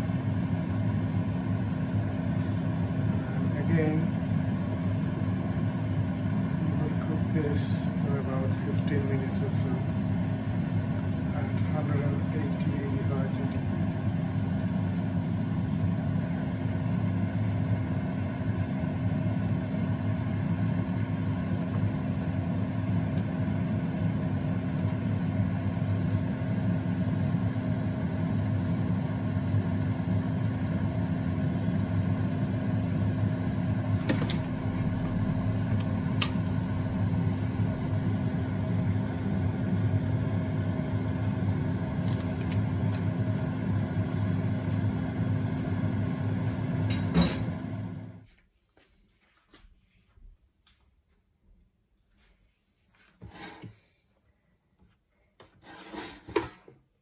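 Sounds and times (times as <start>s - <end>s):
electric fan motor humming: 0.0s - 48.3s.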